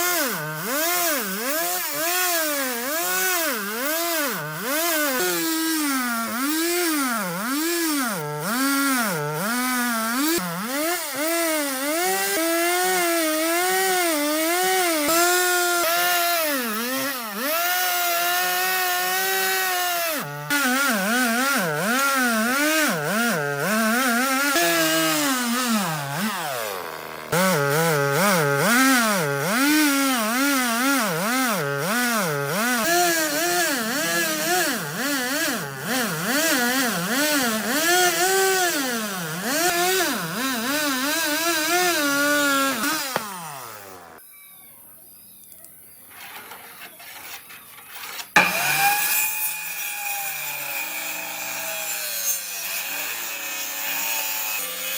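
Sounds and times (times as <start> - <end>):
chainsaw cutting wood: 0.0 - 44.2, 46.1 - 54.9.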